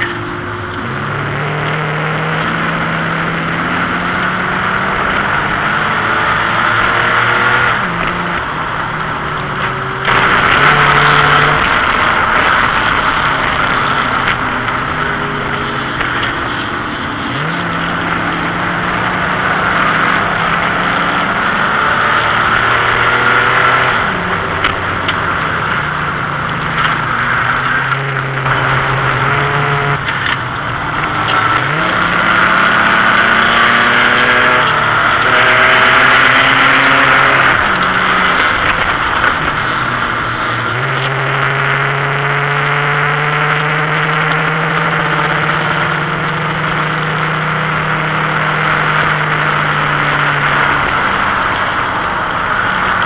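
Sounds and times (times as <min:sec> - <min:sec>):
race car engine revving: 0:00.0 - 0:53.0
wind and road noise: 0:00.0 - 0:53.0.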